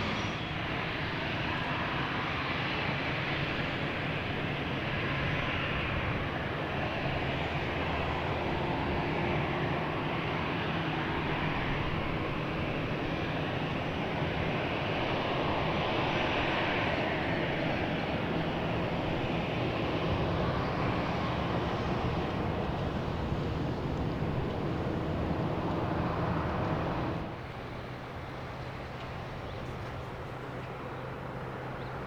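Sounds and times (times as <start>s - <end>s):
jet airliner engines passing: 0.0s - 32.0s.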